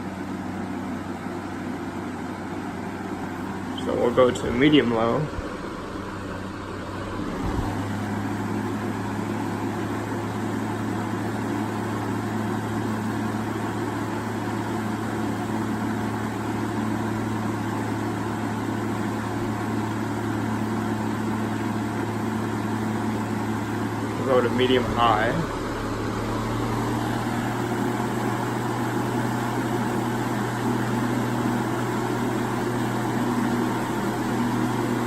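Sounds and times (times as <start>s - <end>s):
floor fan running: 0.0s - 35.0s.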